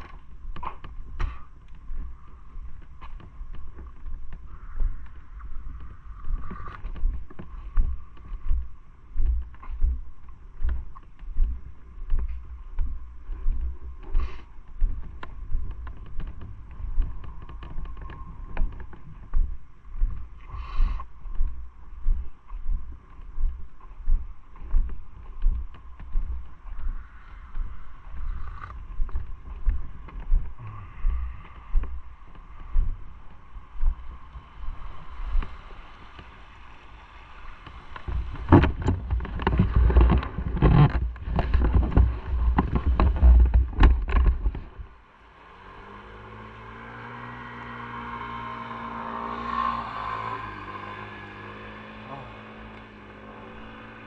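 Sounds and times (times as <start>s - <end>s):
wind buffeting microphone: 0.0s - 45.0s
motorcycle engine humming: 0.0s - 54.0s.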